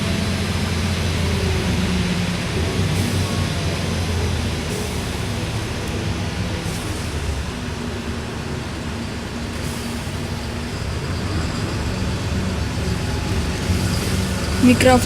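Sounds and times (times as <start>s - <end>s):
bus engine drone: 0.0s - 15.0s
road and tyre rumble: 0.0s - 15.0s.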